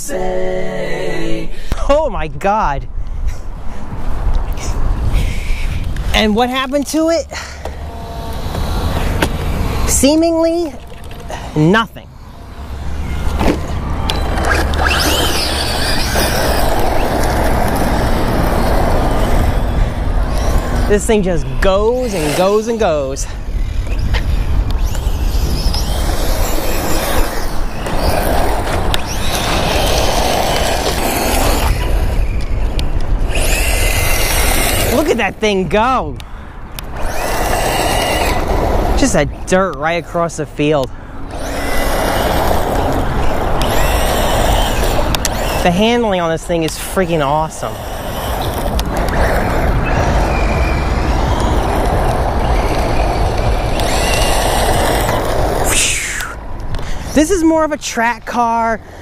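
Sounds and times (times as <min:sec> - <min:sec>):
rc truck motor whining: 0:07.6 - 0:11.6, 0:12.2 - 0:35.4, 0:36.8 - 0:40.3, 0:41.3 - 0:58.1.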